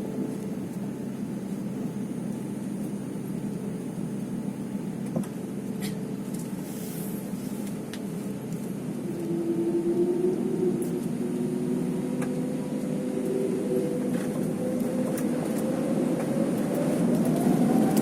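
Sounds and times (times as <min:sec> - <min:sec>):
jet engines humming: 0:00.0 - 0:18.0.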